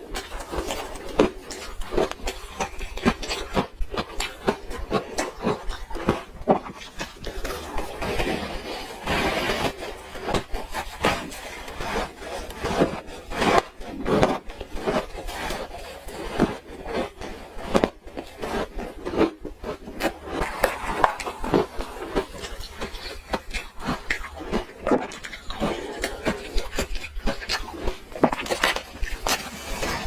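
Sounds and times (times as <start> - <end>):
crunching and scraping ice: 0.0 - 30.0.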